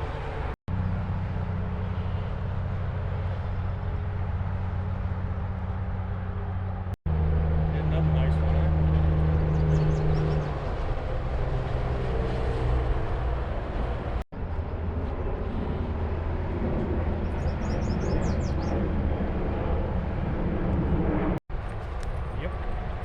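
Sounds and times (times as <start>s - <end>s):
heavy engine drone: 0.0s - 20.9s
tyre and road noise: 0.0s - 23.0s.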